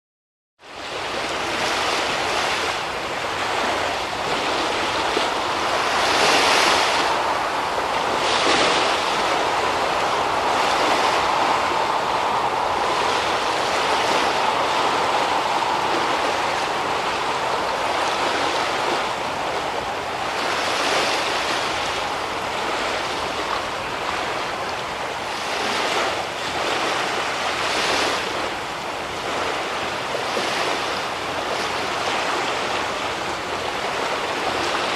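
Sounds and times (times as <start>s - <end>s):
sea waves washing: 0.6s - 34.9s.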